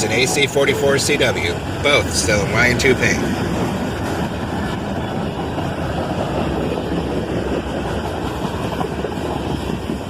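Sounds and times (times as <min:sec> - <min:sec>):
freight train rumbling past: 0:00.0 - 0:10.0.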